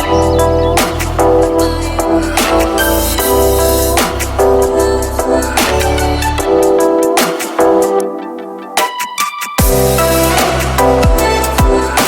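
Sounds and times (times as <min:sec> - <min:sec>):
electronic dubstep music: 0:00.0 - 0:12.0.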